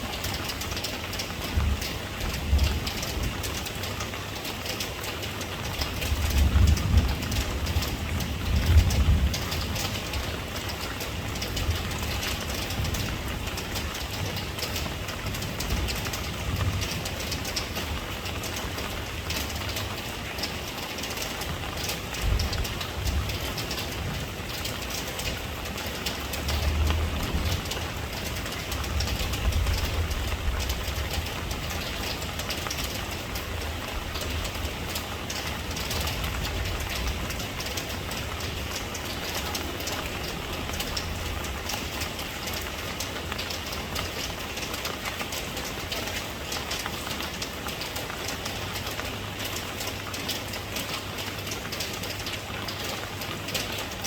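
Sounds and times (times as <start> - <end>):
rain hissing: 0.0 - 54.0.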